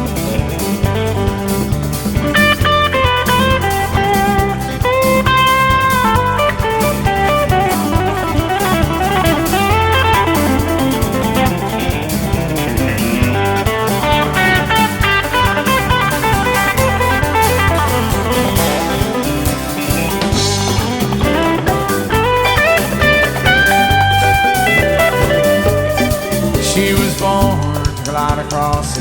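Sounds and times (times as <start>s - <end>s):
bass: 0.0s - 29.0s
drum kit: 0.0s - 29.0s
guitar melodic lead: 0.0s - 29.0s.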